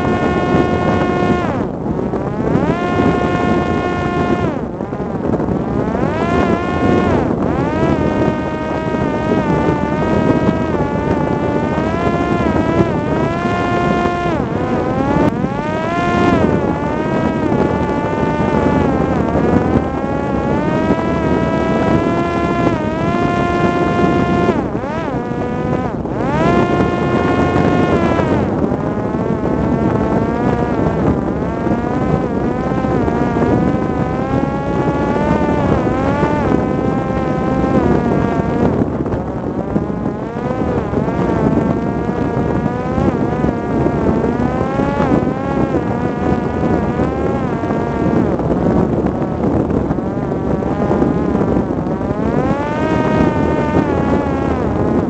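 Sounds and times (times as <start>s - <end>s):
drone motor buzzing whine: 0.0s - 55.0s.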